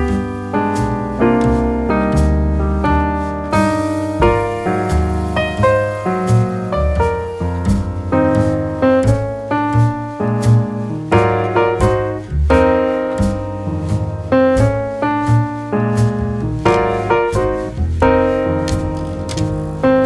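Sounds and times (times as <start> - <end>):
piano instrumental with beat: 0.0 - 20.0.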